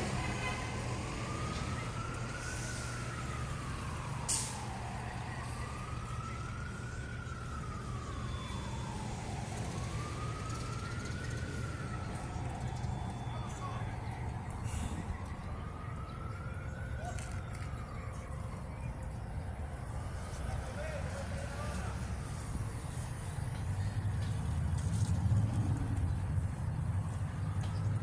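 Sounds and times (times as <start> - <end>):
emergency siren wailing: 0.0 - 28.0
street traffic rumble: 0.0 - 28.0.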